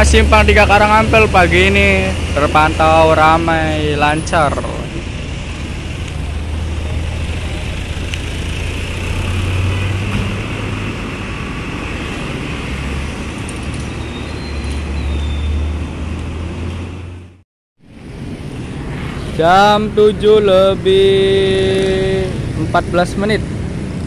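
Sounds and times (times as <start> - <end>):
engine rumble: 0.0 - 24.0
motorcycles passing: 0.0 - 24.0.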